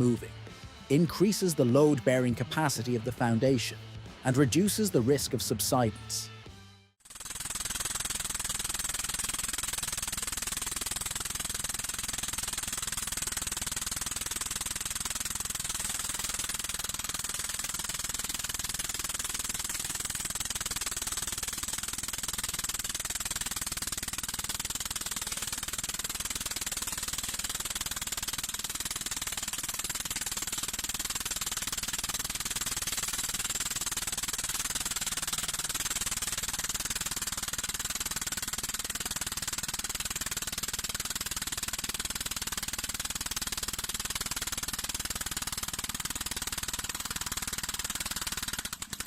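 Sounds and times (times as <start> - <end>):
machine rattling rapidly: 7.0 - 49.0.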